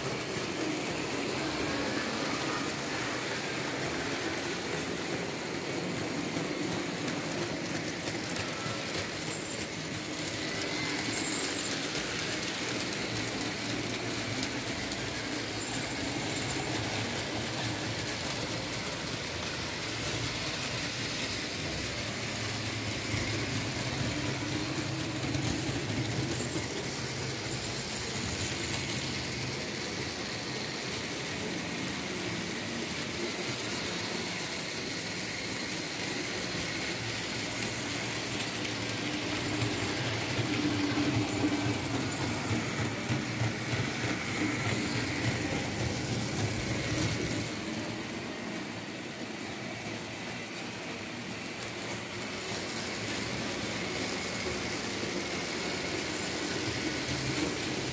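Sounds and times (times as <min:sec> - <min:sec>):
model train wheels rumbling: 0:00.0 - 0:57.9.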